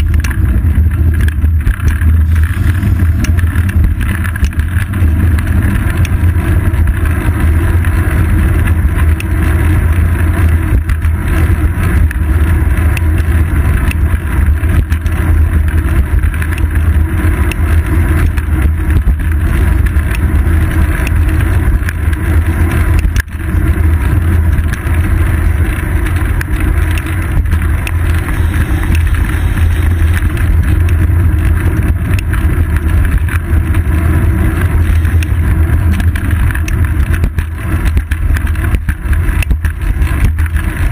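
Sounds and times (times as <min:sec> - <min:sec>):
wind and road rumble: 0:00.0 - 0:40.9.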